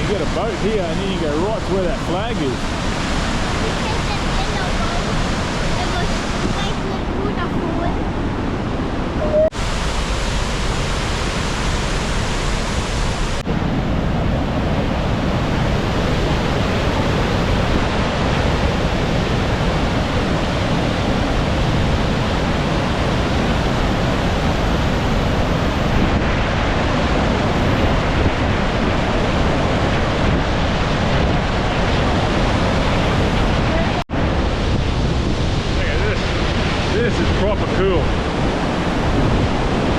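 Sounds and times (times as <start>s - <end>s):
waterfall rushing: 0.0s - 39.9s
wind rumble on microphone: 0.0s - 39.9s.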